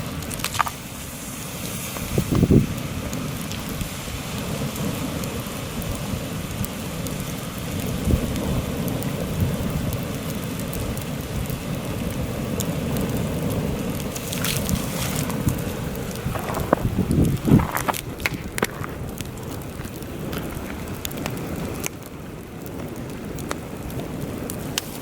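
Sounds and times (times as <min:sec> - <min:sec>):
campfire crackling and popping: 0:00.0 - 0:25.0
heavy wind buffeting microphone: 0:01.1 - 0:10.2, 0:10.9 - 0:25.0.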